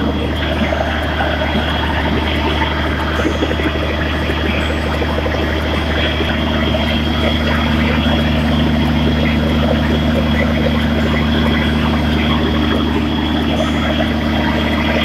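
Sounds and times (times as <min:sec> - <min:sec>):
diesel generator engine running: 0:00.0 - 0:15.0.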